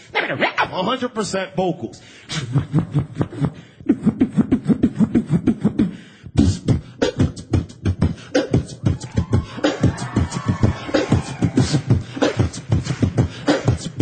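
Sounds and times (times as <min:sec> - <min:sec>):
person beatboxing: 0:01.9 - 0:14.0.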